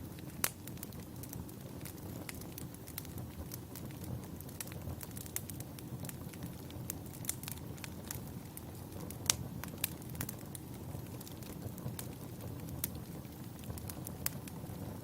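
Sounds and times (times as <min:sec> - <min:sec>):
firewood crackling and popping: 0:00.0 - 0:15.0
low rumble of flames: 0:00.0 - 0:15.0.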